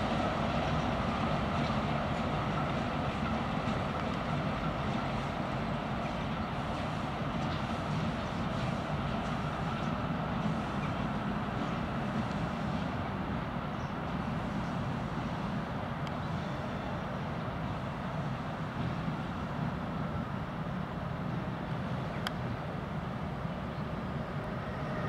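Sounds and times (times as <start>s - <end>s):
diesel locomotive rumbling: 0.0s - 25.0s.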